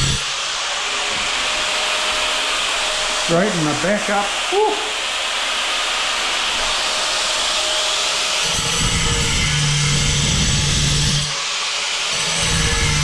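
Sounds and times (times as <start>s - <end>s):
angle grinder cutting tile: 0.0s - 13.0s.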